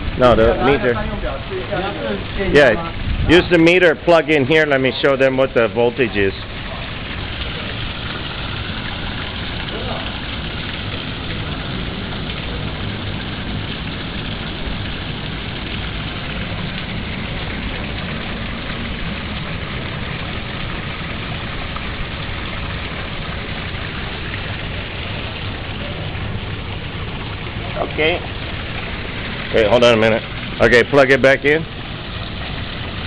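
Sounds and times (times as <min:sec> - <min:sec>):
water splashing onto paving: 0:00.0 - 0:33.0.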